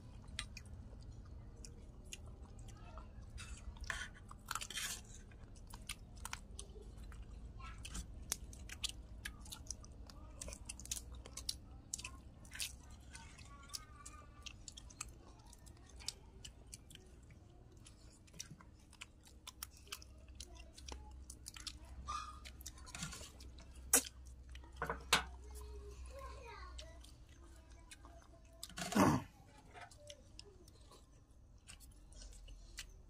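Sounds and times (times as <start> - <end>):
people chewing and eating: 0.0 - 33.0.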